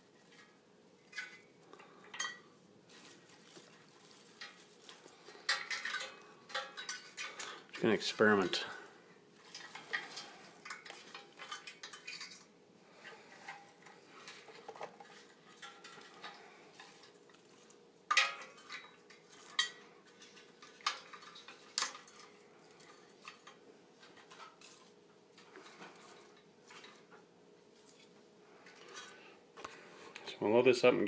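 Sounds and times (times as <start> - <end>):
twigs rustling and scraping: 0.0 - 30.2.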